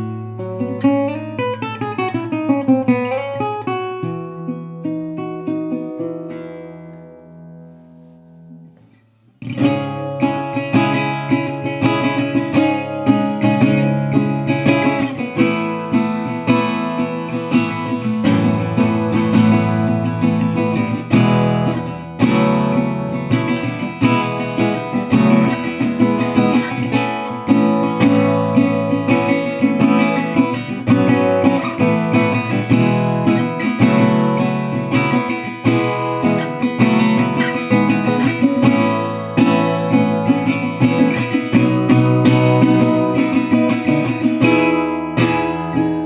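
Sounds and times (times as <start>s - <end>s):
resonator guitar plucked: 0.0s - 46.0s.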